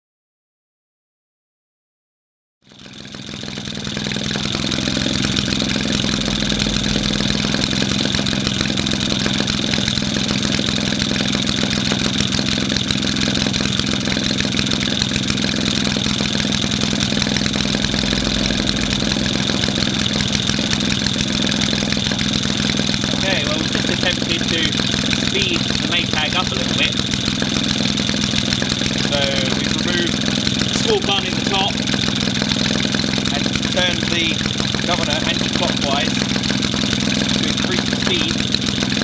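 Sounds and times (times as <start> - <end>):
two-stroke engine running: 2.7 - 39.0.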